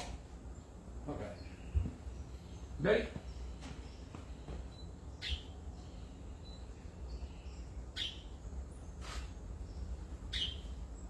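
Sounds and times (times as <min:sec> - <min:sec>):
bird chirping: 0:00.5 - 0:11.0.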